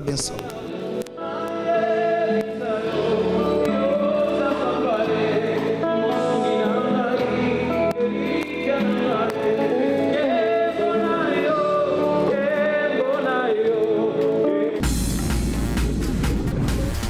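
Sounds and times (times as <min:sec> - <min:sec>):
live gospel music with choir: 0:01.0 - 0:15.0.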